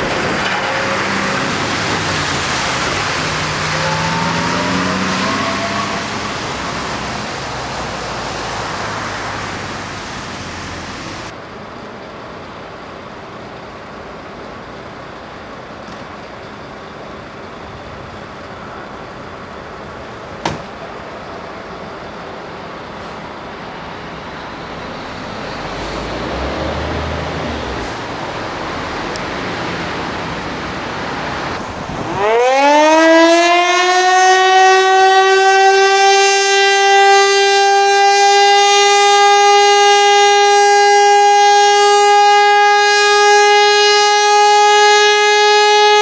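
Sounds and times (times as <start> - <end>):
road traffic rushing: 0.0 - 46.0.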